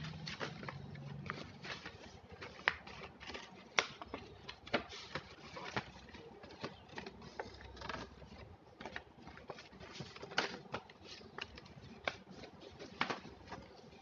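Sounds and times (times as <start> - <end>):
plastic folder crinkling and clicking: 0.0 - 14.0.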